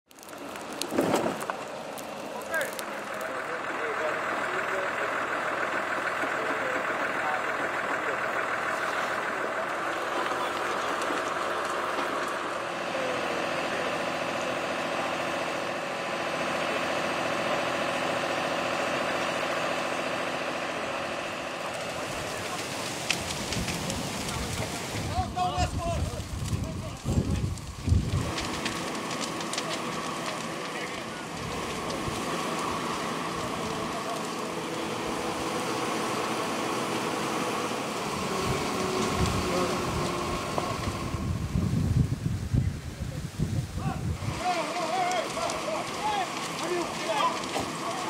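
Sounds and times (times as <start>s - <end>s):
wildfire roaring: 0.1s - 48.0s
engine idling: 0.3s - 42.2s, 43.8s - 48.0s.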